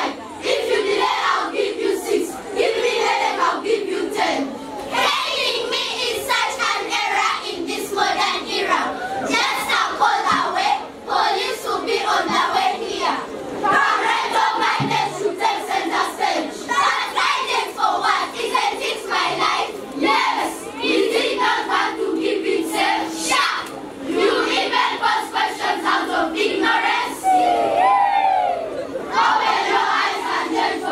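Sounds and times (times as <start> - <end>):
children chanting in chorus: 0.0 - 27.6, 29.1 - 30.9.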